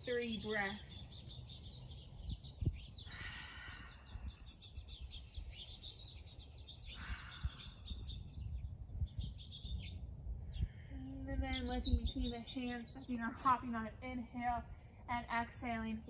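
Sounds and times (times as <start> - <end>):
low outdoor rumble: 0.0 - 16.0
songbirds chirping: 0.0 - 16.0.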